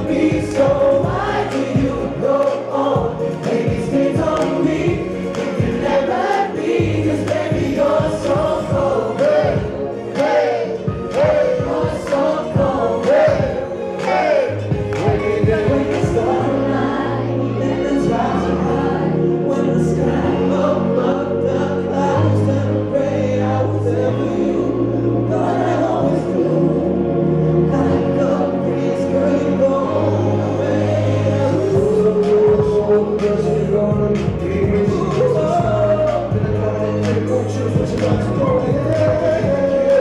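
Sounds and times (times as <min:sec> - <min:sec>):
amplified backing music: 0:00.0 - 0:40.0
men singing into microphones: 0:00.0 - 0:40.0.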